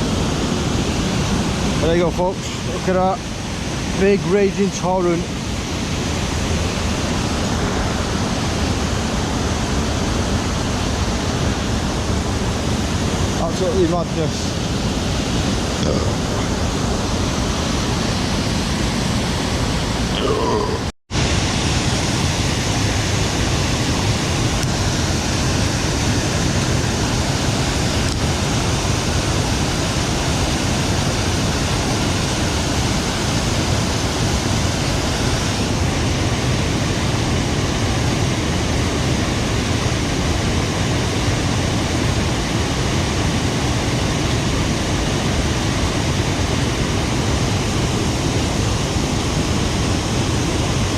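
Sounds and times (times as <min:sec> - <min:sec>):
river rushing over waterfall: 0:00.0 - 0:50.9.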